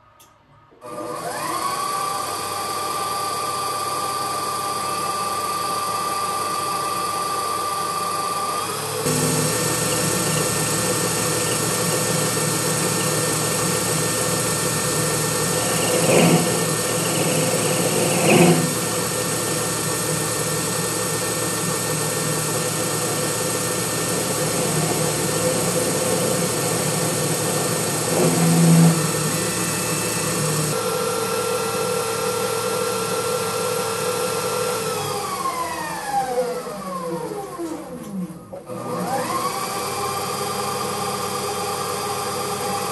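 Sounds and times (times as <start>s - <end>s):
lathe spindle whine: 0.9s - 37.8s, 38.8s - 42.9s
lathe tool cutting metal: 1.2s - 35.8s, 39.1s - 42.9s.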